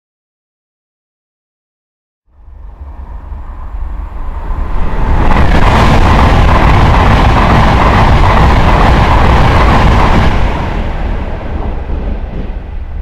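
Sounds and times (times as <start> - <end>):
train passing rumble: 2.3 - 13.0.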